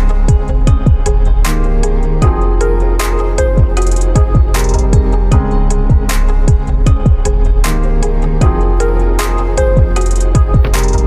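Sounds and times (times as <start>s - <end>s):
deep kick drums: 0.0s - 1.6s, 2.2s - 2.6s, 3.4s - 11.0s.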